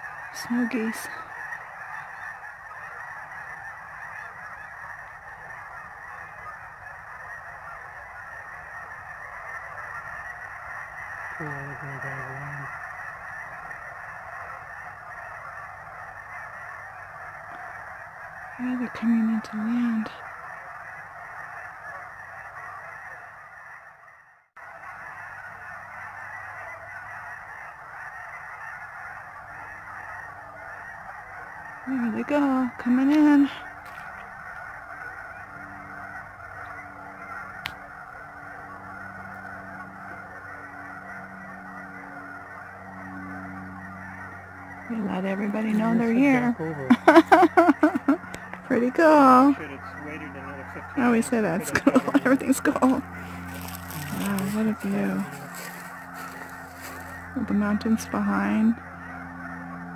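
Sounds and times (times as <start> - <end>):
geese honking: 0.0 - 59.9.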